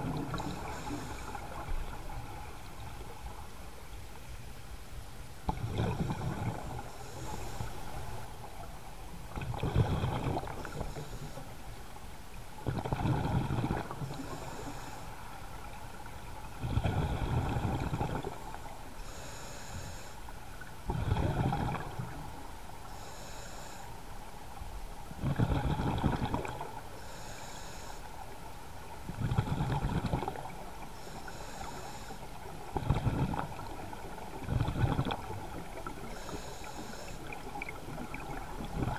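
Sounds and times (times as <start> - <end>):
exhaled air bubbling underwater: 0.0 - 3.5, 5.5 - 23.7, 24.9 - 38.9.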